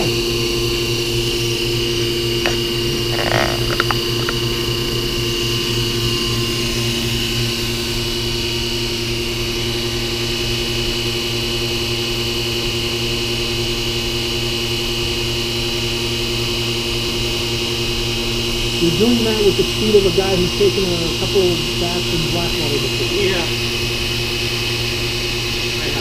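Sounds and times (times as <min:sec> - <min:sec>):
vacuum pump humming and whining: 0:00.0 - 0:26.0.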